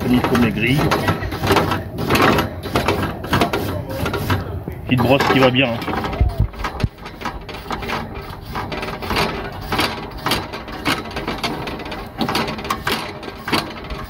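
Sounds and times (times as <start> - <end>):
grill brush scrubbing metal grate: 0.0 - 14.0.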